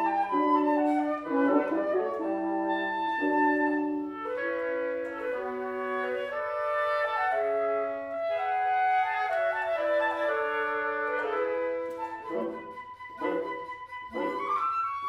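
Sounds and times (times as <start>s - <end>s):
woodwind quintet playing chords: 0.0s - 15.0s.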